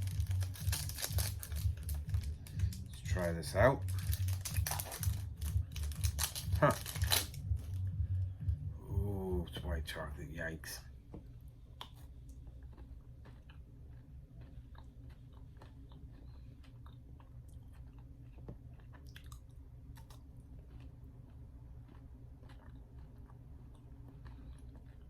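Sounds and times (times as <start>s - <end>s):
person chewing crunchy bar: 0.0s - 8.2s, 11.6s - 25.0s
low steady hum: 0.0s - 25.0s.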